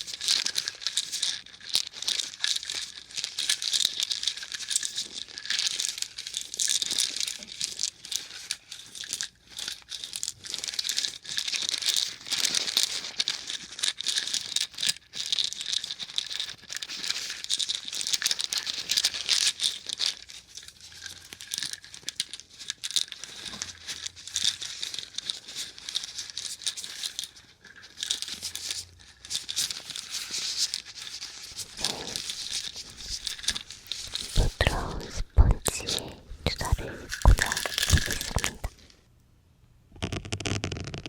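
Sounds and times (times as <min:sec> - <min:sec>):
plastic syringes rattling and clicking: 0:00.0 - 0:38.8.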